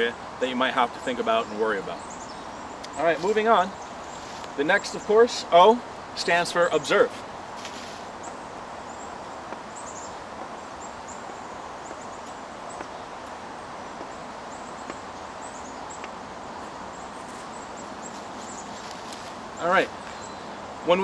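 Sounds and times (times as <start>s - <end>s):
woodland background hiss: 0.0s - 21.0s.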